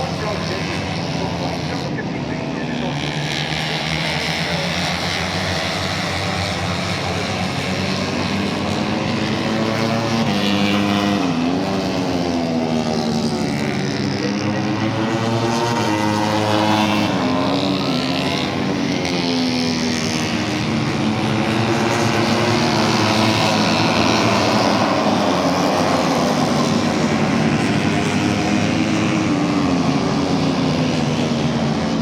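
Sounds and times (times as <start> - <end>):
racing motorcycle engines high revs: 0.0 - 32.0.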